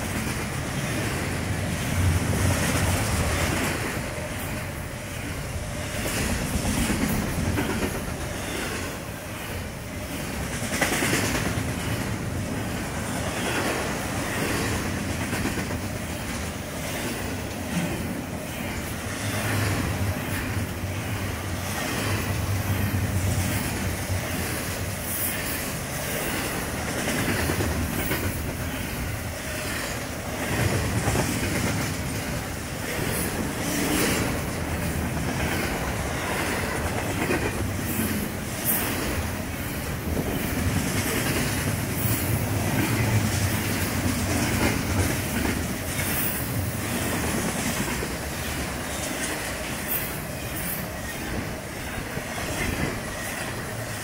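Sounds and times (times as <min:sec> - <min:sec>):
freight train rumbling past: 0:00.0 - 0:54.0
wheels clickety-clack on rails: 0:00.0 - 0:54.0.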